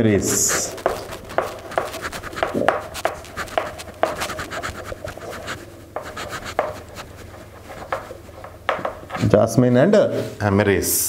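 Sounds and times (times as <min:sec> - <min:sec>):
chalk scratching on chalkboard: 0:00.1 - 0:09.4.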